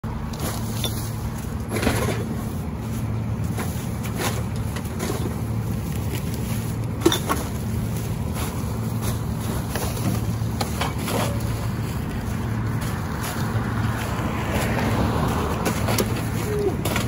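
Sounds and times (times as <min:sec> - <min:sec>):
garbage truck idling: 0:00.0 - 0:14.2, 0:14.8 - 0:17.0.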